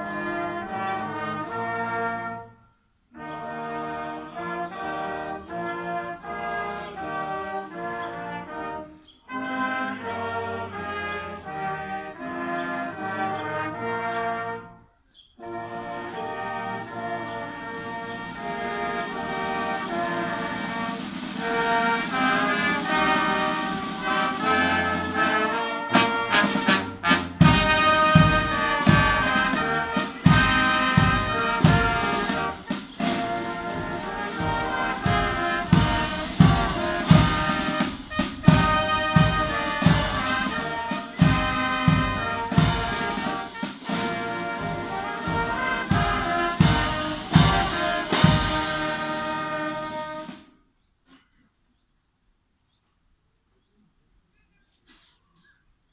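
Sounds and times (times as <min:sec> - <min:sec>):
brass band chords: 0:00.0 - 0:50.6.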